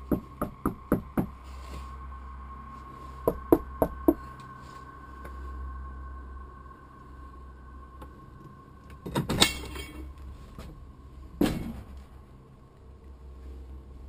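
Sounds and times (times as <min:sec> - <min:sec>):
faint high hum: 0:00.0 - 0:14.0.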